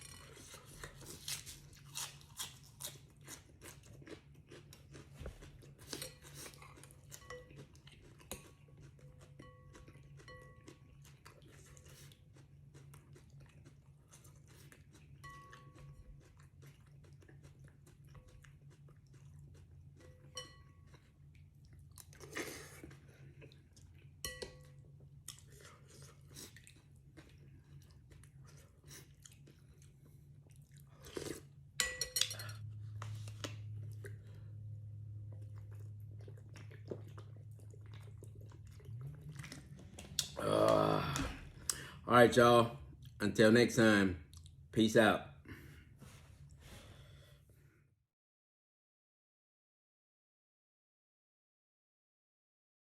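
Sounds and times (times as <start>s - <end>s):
person chewing and crunching food: 0.0s - 43.2s, 44.2s - 44.7s
steady low hum: 0.0s - 47.8s.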